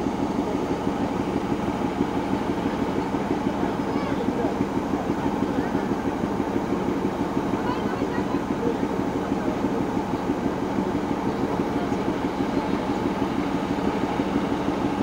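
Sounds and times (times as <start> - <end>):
diesel locomotive engine throbbing: 0.0 - 15.0.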